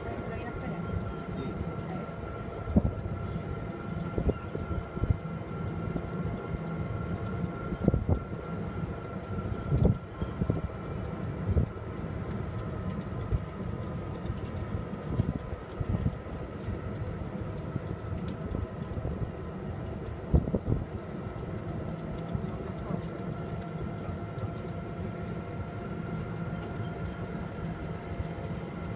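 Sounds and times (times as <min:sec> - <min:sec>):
steady whine: 0:00.0 - 0:28.9
vehicle engine and road noise: 0:00.0 - 0:28.9.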